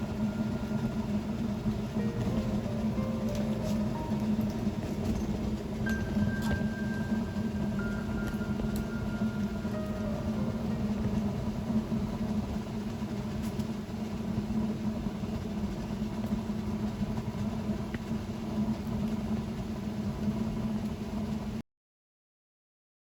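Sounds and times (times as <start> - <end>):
steady low drone: 0.0 - 19.0
noisy rumble: 0.0 - 21.5.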